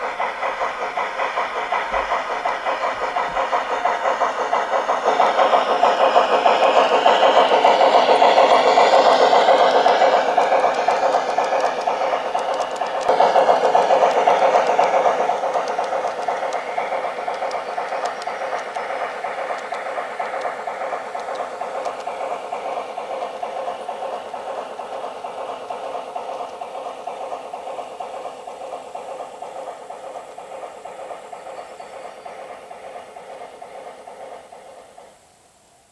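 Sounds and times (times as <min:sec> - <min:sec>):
model train wheels rattling: 0:00.0 - 0:35.1.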